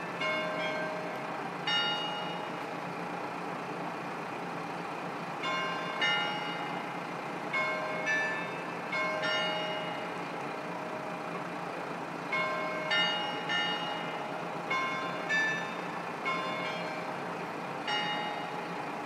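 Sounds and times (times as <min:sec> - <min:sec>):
diesel railcar engine: 0:00.0 - 0:19.0.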